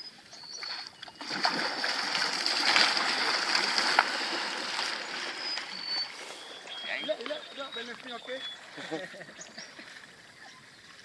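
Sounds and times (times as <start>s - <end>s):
paddles splashing through water: 0.5s - 11.0s.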